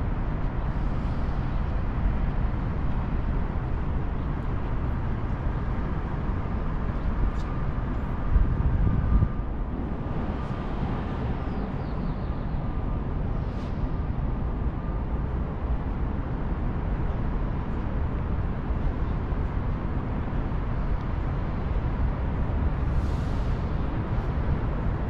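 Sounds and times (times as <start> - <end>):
city traffic noise: 0.0 - 25.0.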